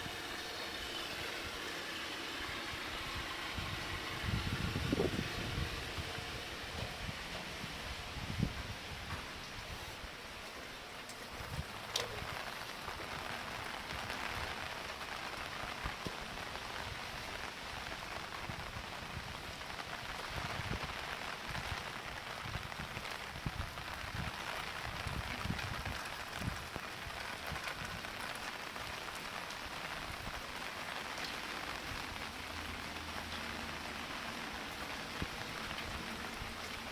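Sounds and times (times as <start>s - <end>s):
rain falling on surfaces: 0.0s - 36.9s.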